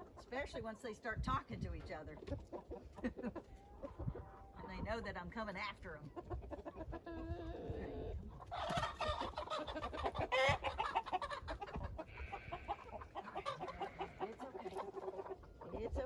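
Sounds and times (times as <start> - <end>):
hens clucking and squawking: 0.0 - 16.0.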